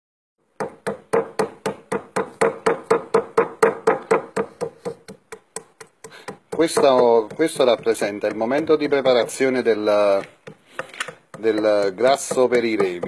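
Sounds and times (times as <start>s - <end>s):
rubber mallet pounding on stone: 0.6s - 13.0s.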